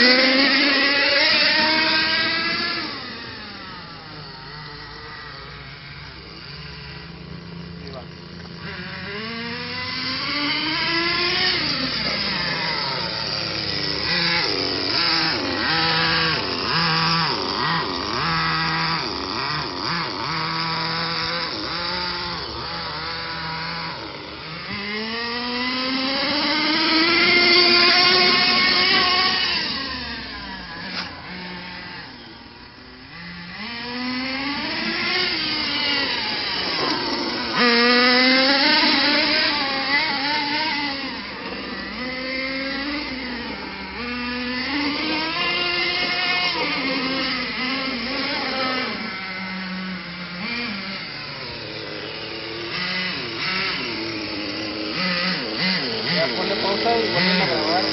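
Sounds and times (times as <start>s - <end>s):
small nitro engine revving: 0.0s - 57.9s.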